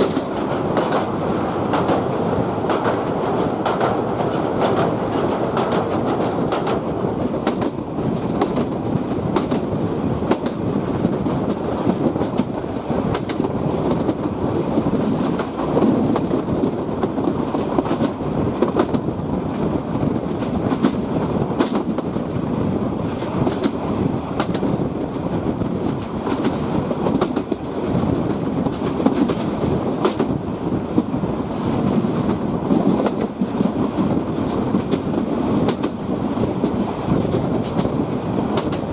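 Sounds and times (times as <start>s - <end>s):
wheels clicking over rail joints: 0.0s - 9.7s, 10.3s - 19.1s, 20.1s - 22.2s, 25.9s - 30.4s, 31.7s - 38.9s
train rumbling on track: 0.0s - 38.9s.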